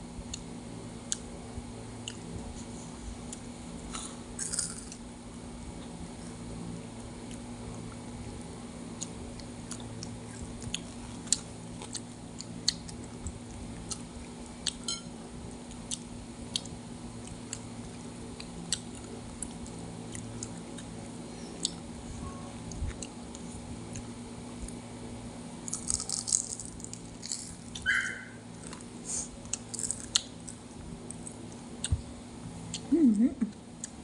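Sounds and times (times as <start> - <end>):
steady low hum: 0.0 - 34.0
chewing crunchy fried food: 0.2 - 5.1, 5.7 - 22.0, 25.6 - 32.9.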